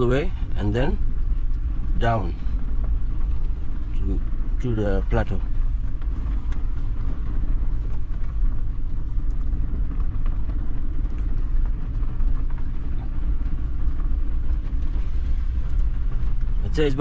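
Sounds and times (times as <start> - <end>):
car engine rumbling uphill: 0.0 - 17.0.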